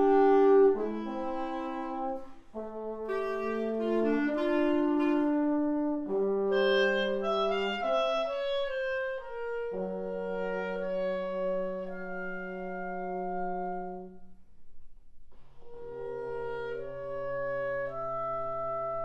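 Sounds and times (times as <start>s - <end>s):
trombone low notes: 0.0s - 14.3s, 15.4s - 19.0s
clarinet: 0.0s - 14.5s, 15.5s - 19.0s.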